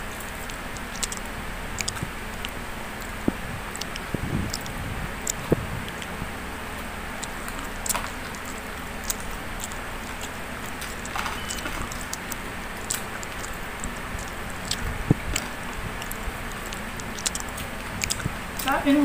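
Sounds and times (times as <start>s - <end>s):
low background noise: 0.0s - 19.0s
person chewing: 0.1s - 18.7s
small clicks and smacks: 0.2s - 3.2s, 3.8s - 6.1s, 7.2s - 18.7s.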